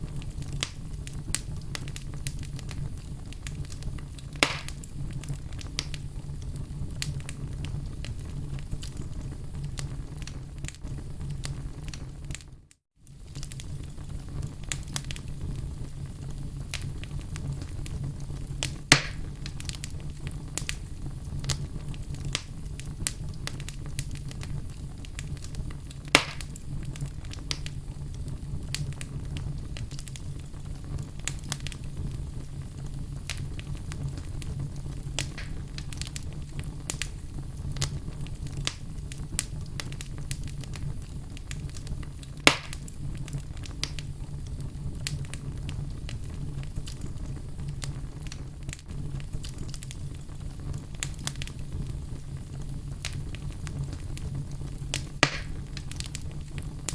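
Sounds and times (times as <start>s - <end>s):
fire pops: 0.0s - 56.9s
wood fire crackling: 0.0s - 56.9s.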